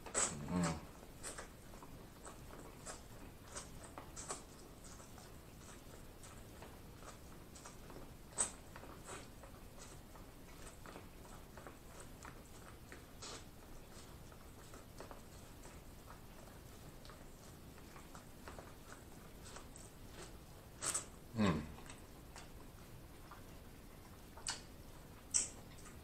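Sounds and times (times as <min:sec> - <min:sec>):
chewing mouth clicks and smacks: 0:00.0 - 0:26.0.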